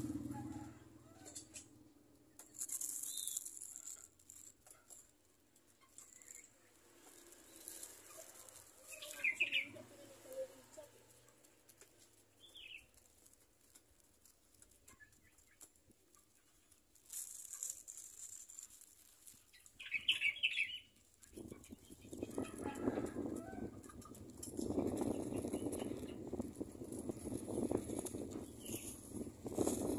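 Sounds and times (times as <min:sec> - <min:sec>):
plastic bag crinkling: 0:02.4 - 0:09.5, 0:11.1 - 0:23.3, 0:24.0 - 0:29.9
doves pecking: 0:02.4 - 0:29.9.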